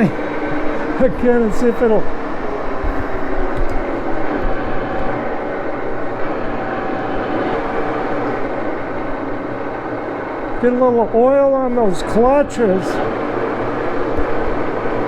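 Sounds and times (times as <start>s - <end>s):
lathe whirring drone: 0.0s - 15.0s.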